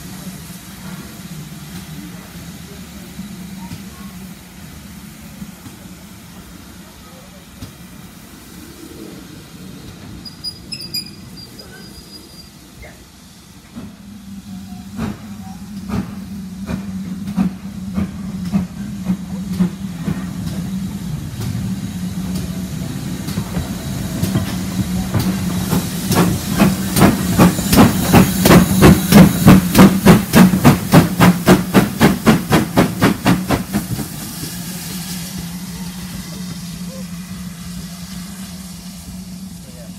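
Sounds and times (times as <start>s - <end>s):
steam hissing: 0.0s - 39.9s
steam locomotive exhaust chuffs: 0.0s - 39.9s.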